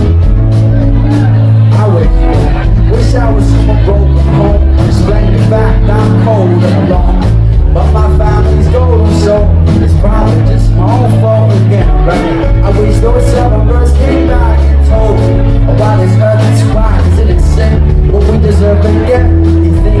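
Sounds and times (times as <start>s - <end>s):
song with bass and melody: 0.0s - 20.0s.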